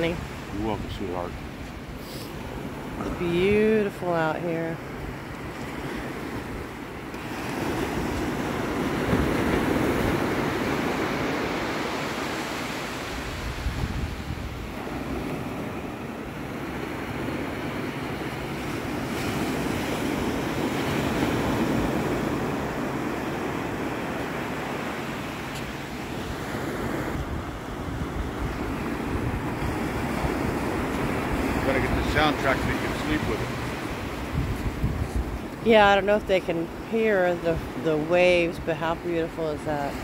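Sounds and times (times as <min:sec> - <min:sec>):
surf washing up a beach: 0:00.0 - 0:40.0.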